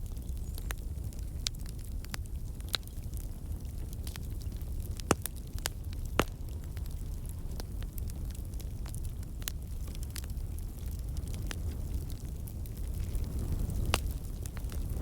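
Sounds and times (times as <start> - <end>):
fire crackling: 0.0 - 15.0
loud fire pops: 0.0 - 15.0
low rumble of flames: 0.0 - 15.0.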